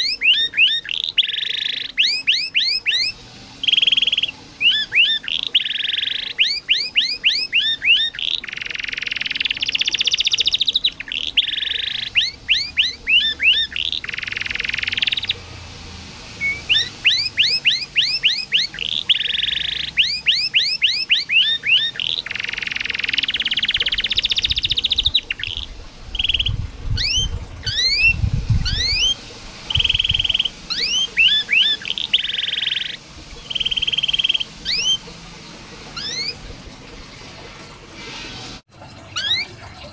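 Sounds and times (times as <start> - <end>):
canary singing: 0.0 - 15.4, 16.3 - 36.6, 39.1 - 39.6.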